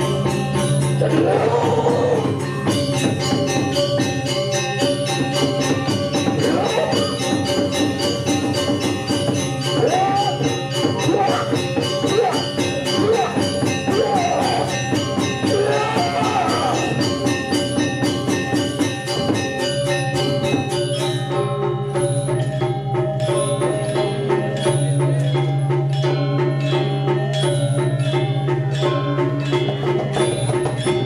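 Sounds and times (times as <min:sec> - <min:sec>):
cymbals clashing: 0:00.0 - 0:31.0
gamelan metal percussion: 0:00.0 - 0:31.0.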